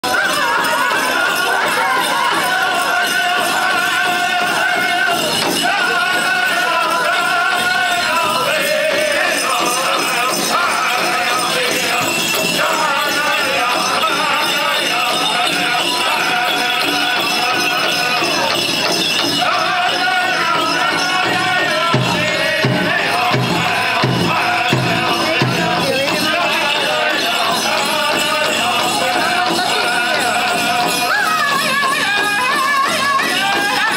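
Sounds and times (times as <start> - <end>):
drum group singing: 0.0 - 33.9
jingling bells: 0.0 - 33.9
big drum beating: 0.4 - 33.7.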